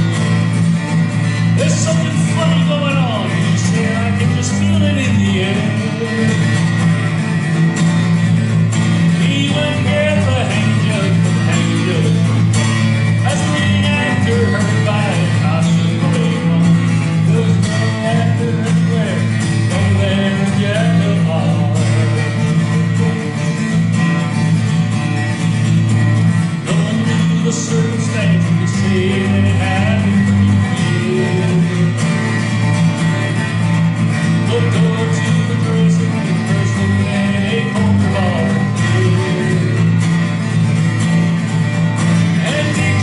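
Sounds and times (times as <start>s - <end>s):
acoustic guitar strummed: 0.0s - 43.0s
man singing folk ballad: 0.0s - 43.0s.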